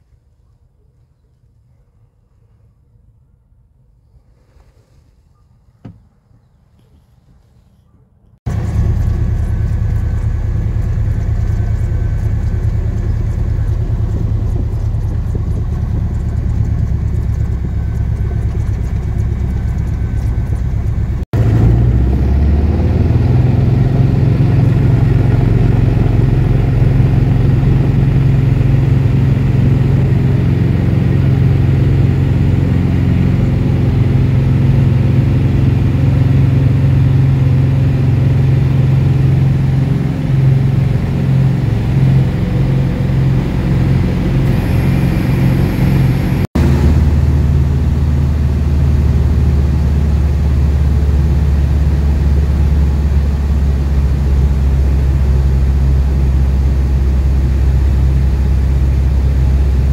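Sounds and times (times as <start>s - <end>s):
propeller plane engine running: 8.3s - 59.9s.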